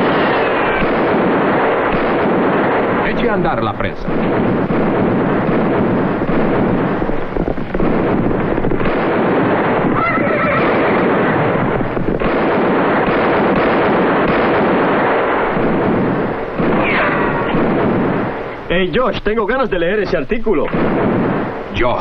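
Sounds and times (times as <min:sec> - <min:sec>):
gunfight soundtrack din: 0:00.0 - 0:19.6, 0:20.3 - 0:22.0
sharp gunshots: 0:00.0 - 0:22.0.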